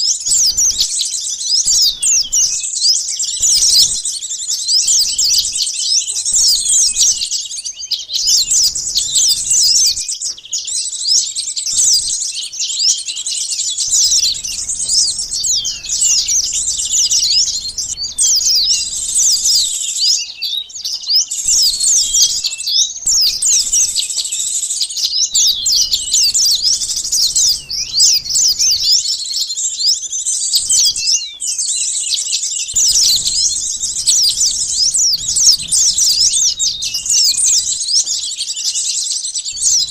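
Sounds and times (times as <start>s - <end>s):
sunbirds chirping and twittering: 0.0s - 39.9s.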